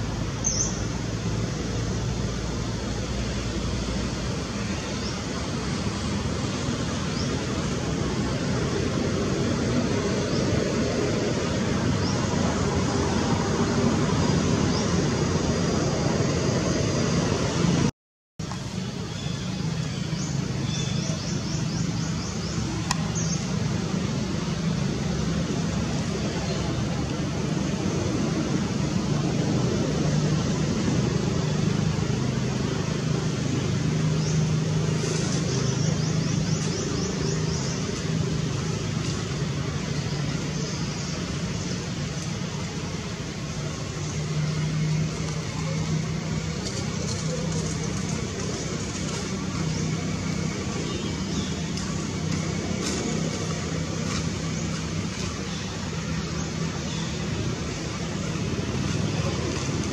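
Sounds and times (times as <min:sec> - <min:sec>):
constant background noise: 0:00.0 - 0:59.9
low engine-like drone: 0:00.0 - 0:59.9
low mechanical hum: 0:00.0 - 0:59.9.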